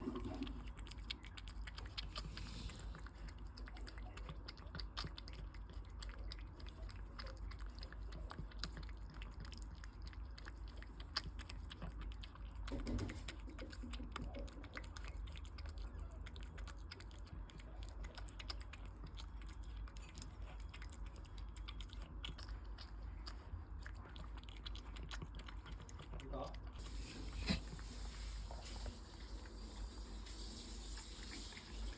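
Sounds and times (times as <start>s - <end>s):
cat eating wet food: 0.0s - 31.9s.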